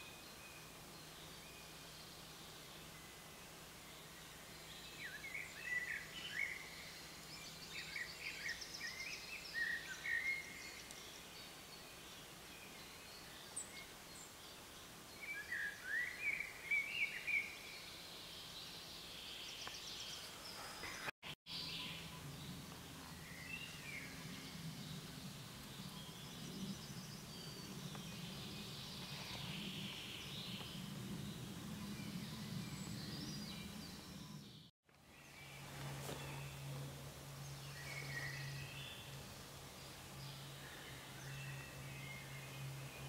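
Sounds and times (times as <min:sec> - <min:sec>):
songbirds singing: 0:00.0 - 0:43.0.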